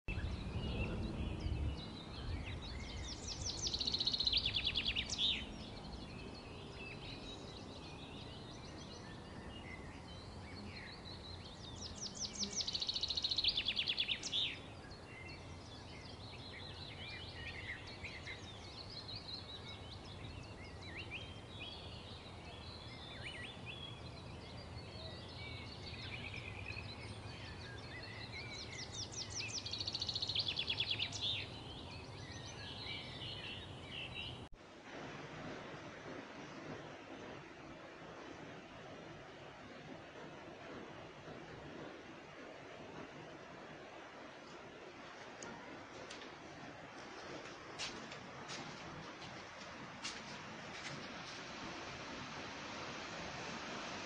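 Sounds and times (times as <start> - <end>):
faint background noise: 0.1 - 54.0.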